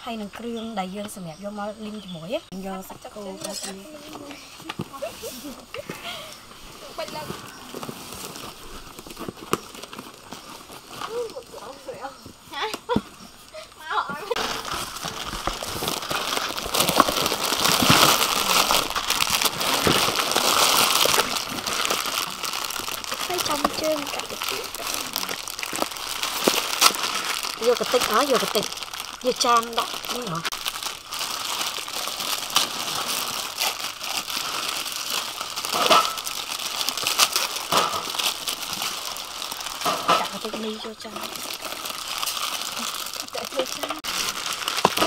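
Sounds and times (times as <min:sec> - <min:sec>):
plastic packets crinkling: 0:02.5 - 0:45.0.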